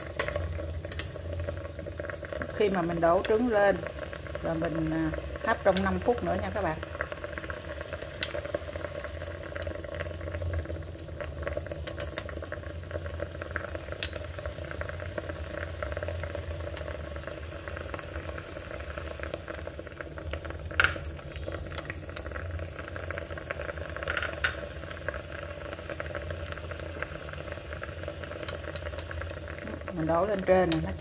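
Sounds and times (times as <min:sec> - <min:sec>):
water boiling in a pot: 0:00.0 - 0:31.0.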